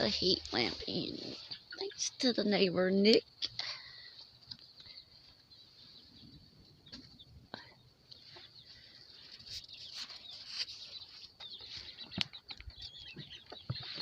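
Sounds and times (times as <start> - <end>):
birds rustling: 0.0 - 14.0
chicks peeping: 0.0 - 14.0.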